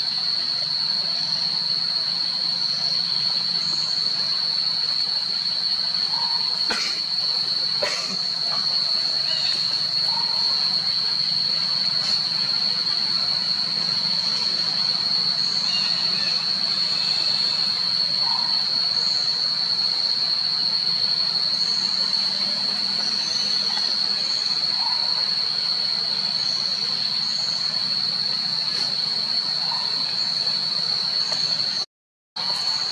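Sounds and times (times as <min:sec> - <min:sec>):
insects droning: 0:00.0 - 0:32.9.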